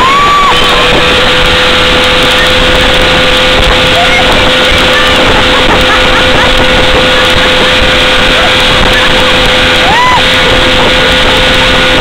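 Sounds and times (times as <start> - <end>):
churning water: 0.0 - 12.0
outboard motor whine: 0.0 - 12.0
wind rushing: 0.0 - 12.0.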